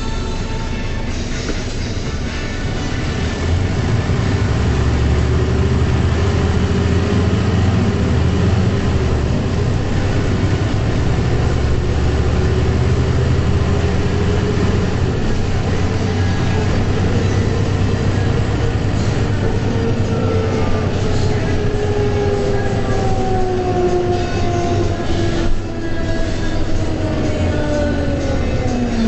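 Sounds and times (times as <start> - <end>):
bus diesel engine drone: 0.0 - 29.0.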